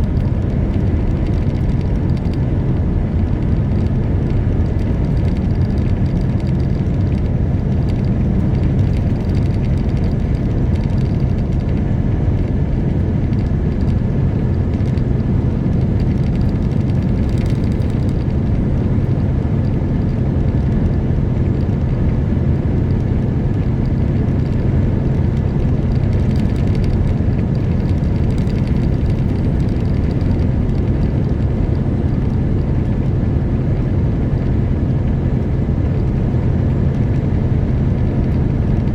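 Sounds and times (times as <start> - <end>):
diesel truck engine rumble: 0.0 - 38.9
road noise: 0.0 - 38.9.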